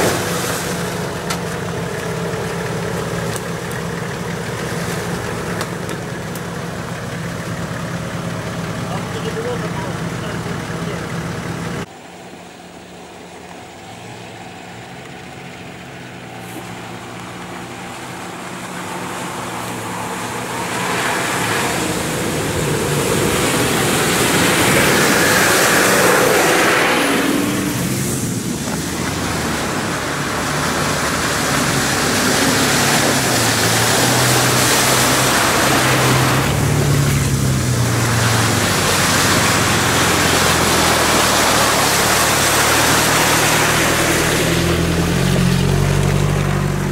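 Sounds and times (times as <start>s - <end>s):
water and mud splashing: 0.0s - 11.8s, 12.7s - 46.9s
off-road engines under load: 0.0s - 46.9s.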